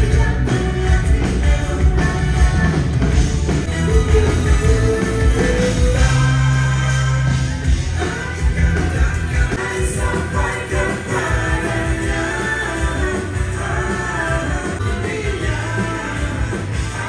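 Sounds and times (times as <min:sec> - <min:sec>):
loud rock music through pa: 0:00.0 - 0:17.0.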